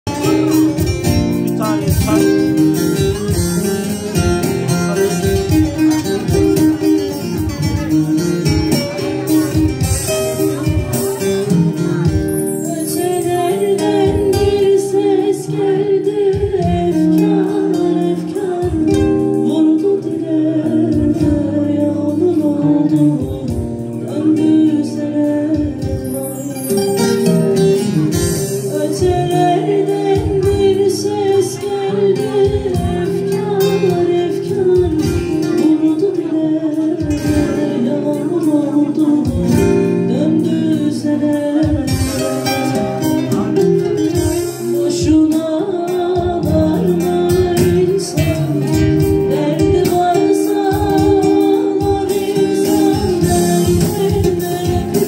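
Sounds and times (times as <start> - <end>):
long-necked lute plucked and strummed: 0.1 - 55.0
woman singing: 0.1 - 55.0.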